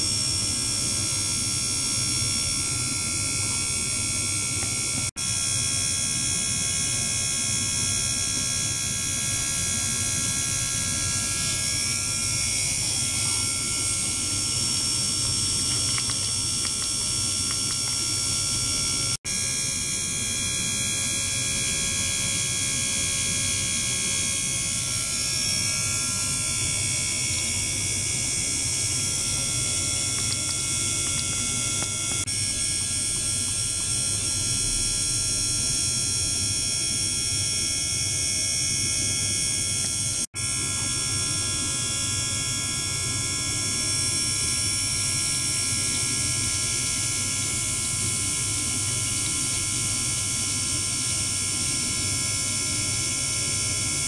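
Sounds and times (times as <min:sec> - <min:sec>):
electrical hum and hiss: 0:00.0 - 0:54.0.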